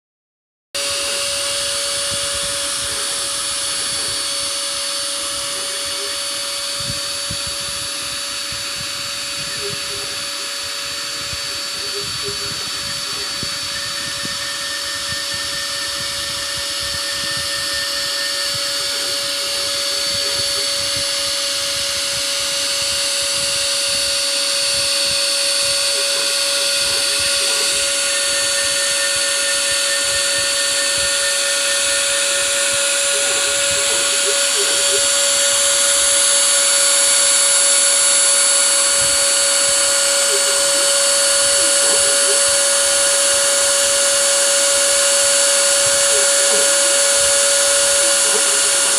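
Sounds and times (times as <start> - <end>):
machine motor whine with hiss: 0.8 - 48.9
short lower motor tones: 0.8 - 48.9.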